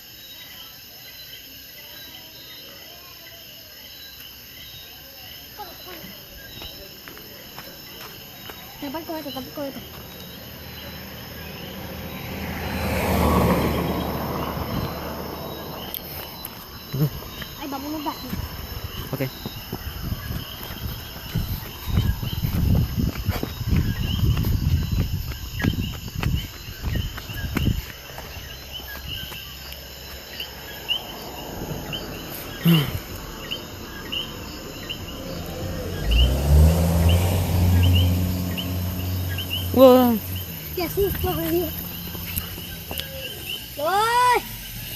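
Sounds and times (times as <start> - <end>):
crickets chirping: 0.0 - 44.9
car driving past: 7.4 - 44.9.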